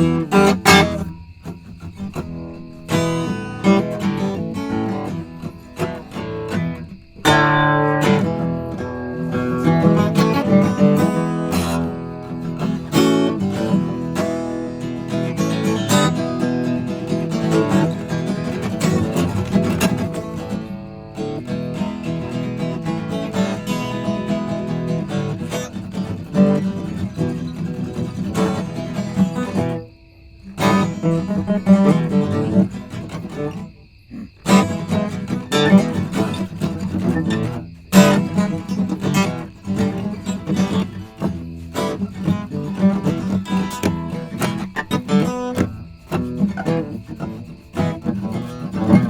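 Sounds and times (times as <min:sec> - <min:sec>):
acoustic guitar strummed and picked: 0:00.0 - 0:49.0.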